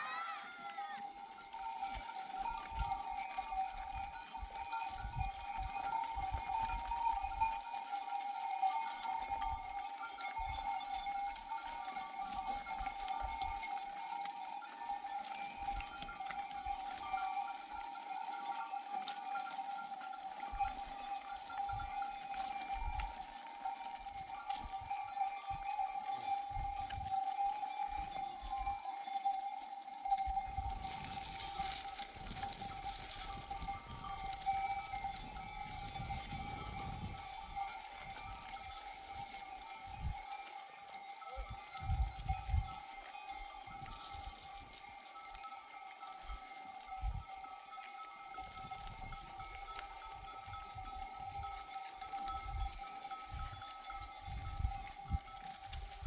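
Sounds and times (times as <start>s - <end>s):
sheep bells jangling: 0.0s - 56.0s.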